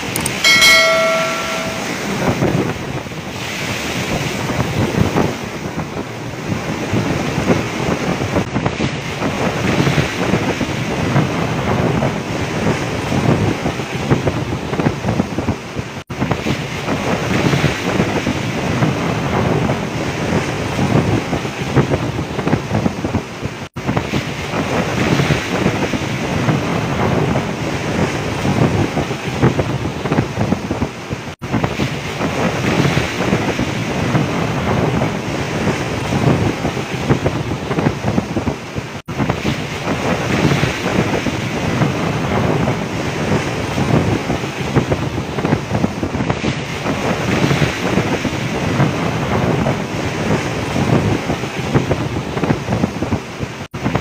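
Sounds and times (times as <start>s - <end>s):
heavy seas surging and breaking: 0.0s - 54.0s
wind blowing across microphone: 0.0s - 54.0s.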